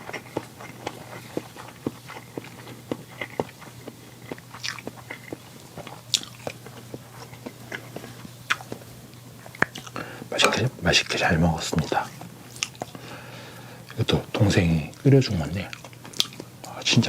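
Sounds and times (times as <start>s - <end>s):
faint steady hum: 0.0s - 17.0s
person chewing food: 0.0s - 17.0s.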